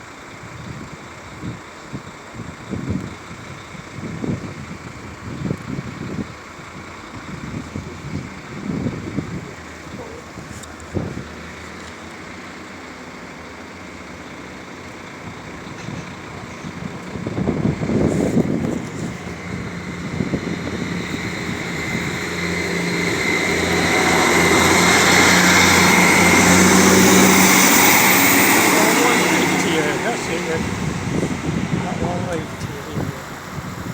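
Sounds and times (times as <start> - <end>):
low engine hum: 0.1 - 33.9
motor vehicle approaching: 4.2 - 33.9.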